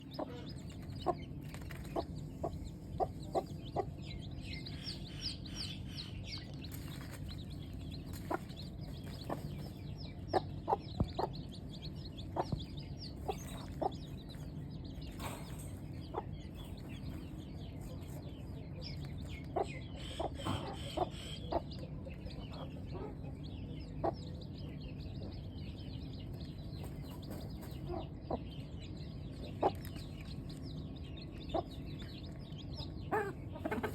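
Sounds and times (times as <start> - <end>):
chicken clucking: 0.0 - 33.9
chicks peeping: 0.0 - 33.9
steady low hum: 0.0 - 33.9.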